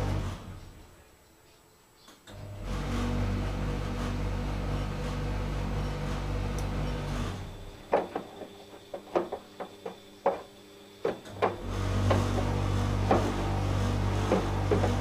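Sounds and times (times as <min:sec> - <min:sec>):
washing machine motor hum: 0:00.0 - 0:01.0, 0:02.3 - 0:15.0.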